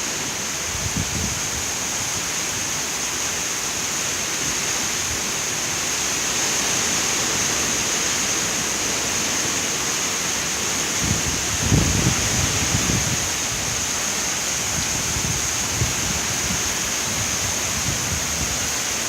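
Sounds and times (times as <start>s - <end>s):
hurricane wind roaring: 0.0s - 19.0s.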